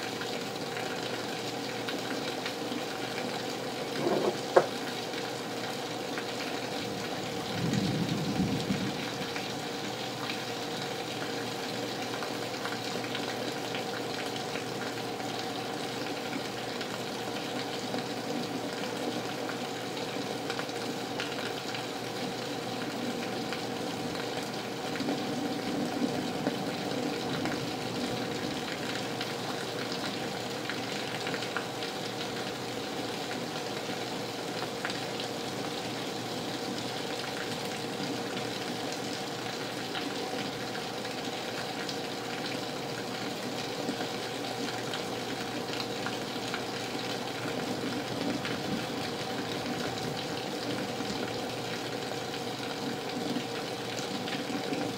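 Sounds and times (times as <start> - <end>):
heavy rain pouring: 0.0 - 54.9
rain running on a window: 0.0 - 54.9.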